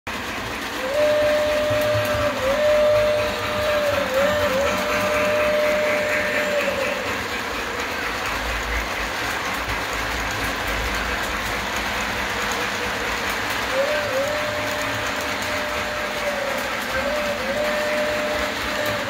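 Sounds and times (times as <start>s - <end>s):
model train wheels rumbling: 0.1s - 19.0s.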